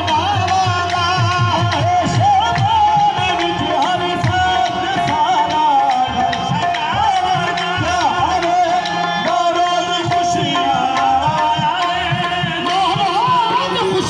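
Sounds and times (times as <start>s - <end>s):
hand drums beating: 0.0s - 14.0s
harmonium melody: 0.0s - 14.0s.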